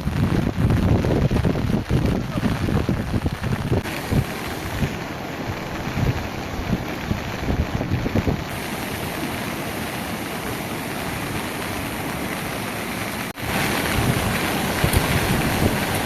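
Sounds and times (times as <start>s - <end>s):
heavy rain falling: 0.0s - 16.0s
wind rumbling on microphone: 0.0s - 16.0s.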